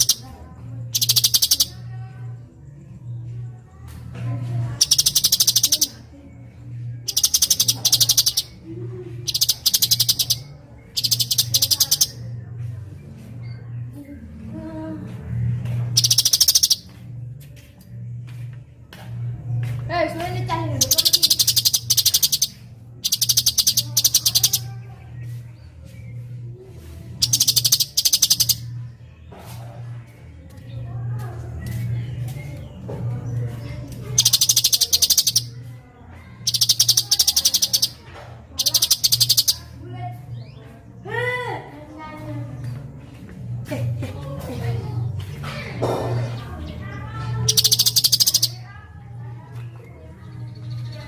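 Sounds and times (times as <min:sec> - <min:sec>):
bird song rapid staccato notes: 0:00.0 - 0:14.4, 0:15.2 - 0:41.1, 0:41.9 - 0:51.0.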